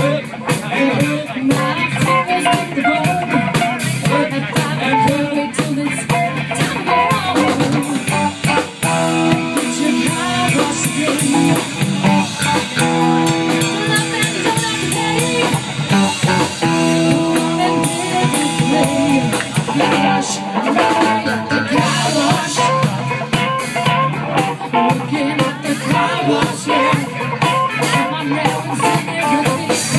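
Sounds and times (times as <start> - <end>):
woman singing: 0.0 - 12.3, 13.2 - 29.9
live funk band playing: 0.0 - 29.9.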